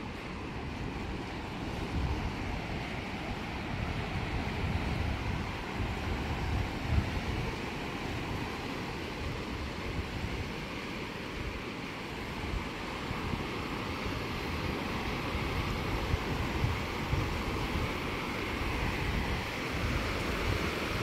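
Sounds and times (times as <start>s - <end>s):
ocean surf on beach: 0.0s - 21.0s
wind gusting on microphone: 0.0s - 21.0s.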